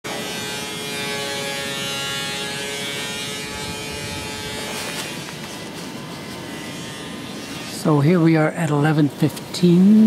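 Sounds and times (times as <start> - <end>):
woodworking machine whine: 0.1 - 10.0.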